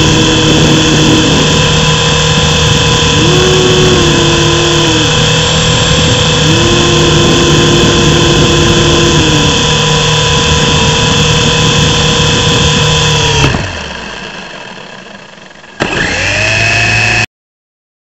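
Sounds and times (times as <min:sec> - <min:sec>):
rc helicopter motors whining: 0:00.0 - 0:17.3.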